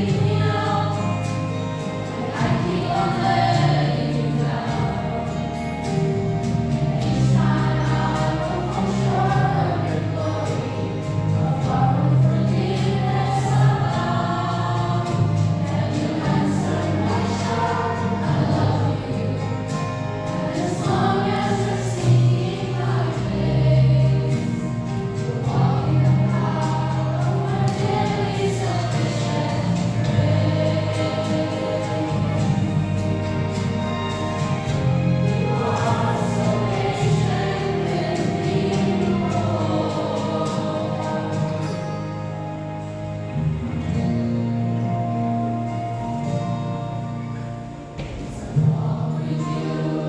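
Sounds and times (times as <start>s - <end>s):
choir singing gospel: 0.0s - 50.0s
instrumental accompaniment: 0.0s - 50.0s.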